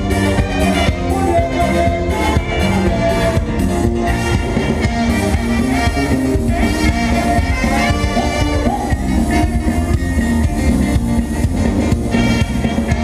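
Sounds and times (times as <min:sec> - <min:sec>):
live band playing dance music: 0:00.0 - 0:13.0.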